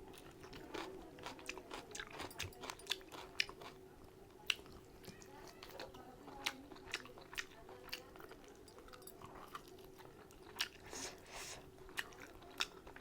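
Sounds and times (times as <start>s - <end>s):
close chewing with mouth clicks: 0.0s - 13.0s.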